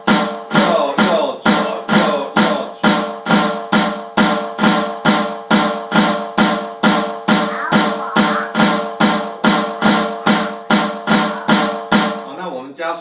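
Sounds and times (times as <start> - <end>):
snare drum triplets: 0.0 - 12.4.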